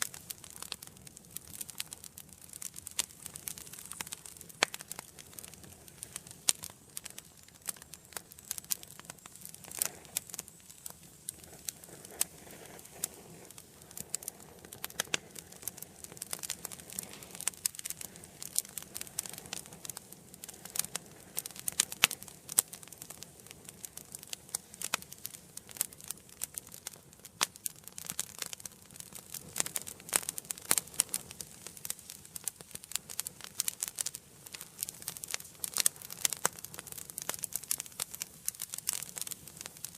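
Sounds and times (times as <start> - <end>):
faint steady hiss: 0.0 - 39.9
fire crackles and pops: 0.0 - 39.9.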